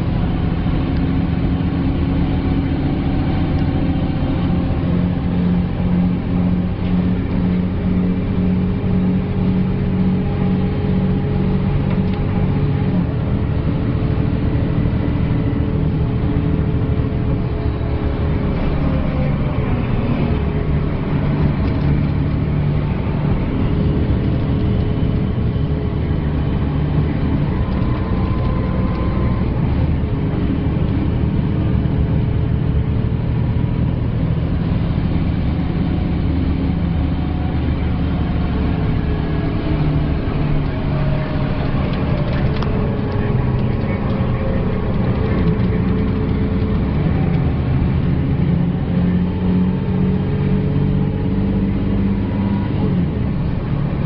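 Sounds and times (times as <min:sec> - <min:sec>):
bus diesel engine from inside: 0:00.0 - 0:54.0.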